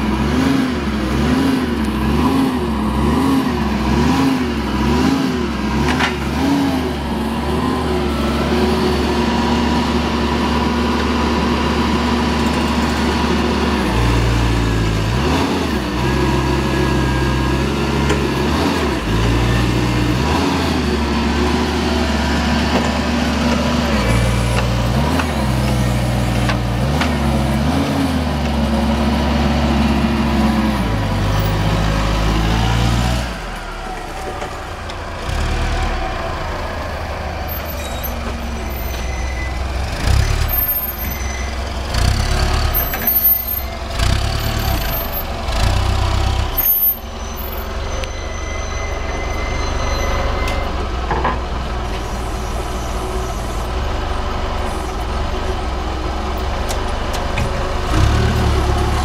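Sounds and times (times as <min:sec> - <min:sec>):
forklift engine revving: 0:00.0 - 0:59.0.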